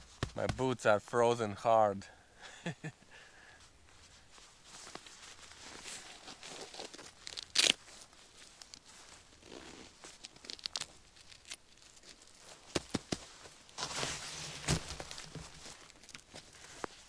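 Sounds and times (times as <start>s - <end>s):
rustling and crinkling: 0.0s - 0.7s, 3.5s - 17.0s.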